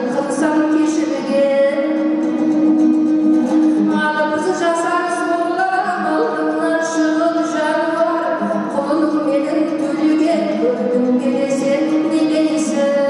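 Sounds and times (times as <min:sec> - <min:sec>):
strummed lute: 0:00.0 - 0:13.0.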